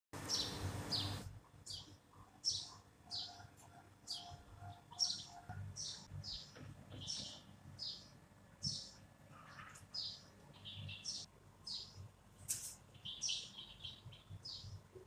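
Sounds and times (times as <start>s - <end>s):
small bird chirping: 0.2s - 12.0s, 12.8s - 15.0s.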